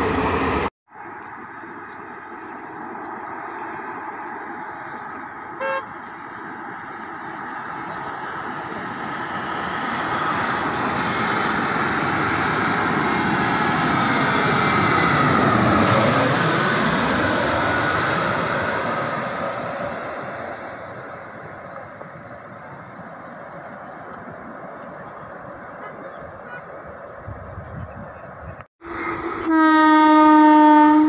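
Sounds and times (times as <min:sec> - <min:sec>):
jet engines passing overhead: 0:00.0 - 0:29.7.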